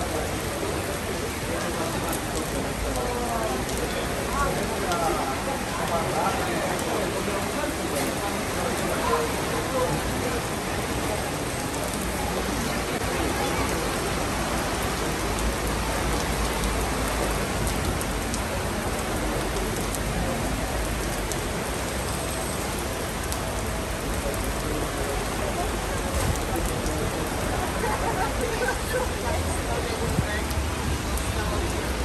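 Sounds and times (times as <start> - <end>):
heavy rain on canvas awnings: 0.0 - 32.0.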